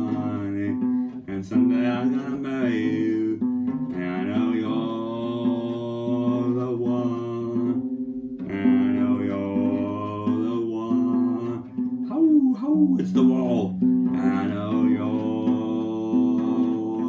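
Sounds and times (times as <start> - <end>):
acoustic guitar: 0.0 - 17.0
man singing long held notes: 0.0 - 17.0.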